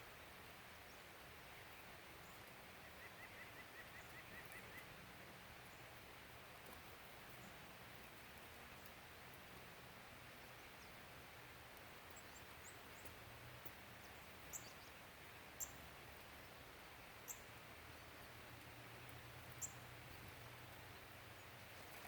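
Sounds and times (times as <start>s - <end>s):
small birds chirping: 0.8s - 6.0s, 6.6s - 9.0s, 10.2s - 22.0s.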